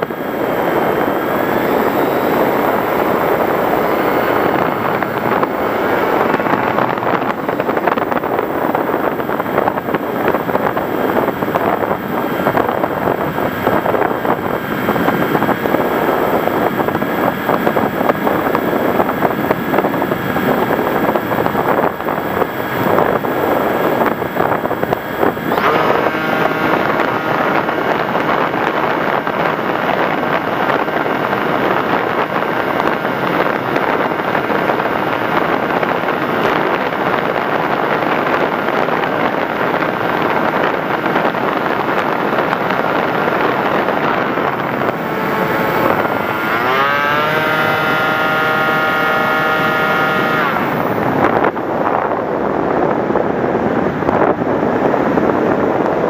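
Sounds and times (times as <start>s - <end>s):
model airplane motor whining: 0.0s - 51.7s
wind over microphone: 0.0s - 56.0s.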